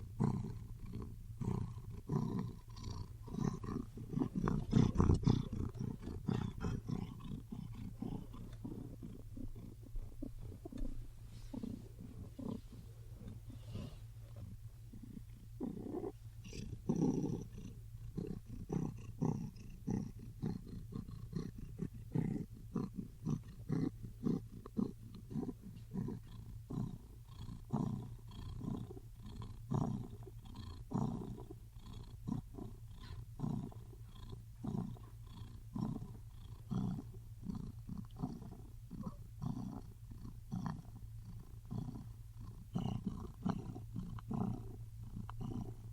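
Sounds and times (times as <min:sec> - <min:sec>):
big cat purr-growl: 0:00.0 - 0:45.9
steady low hum: 0:00.0 - 0:45.9.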